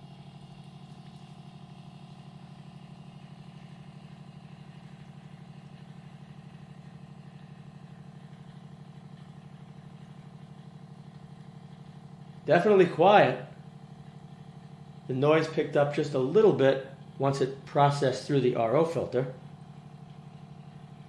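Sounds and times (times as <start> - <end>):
water purifier pump humming: 0.0 - 21.0.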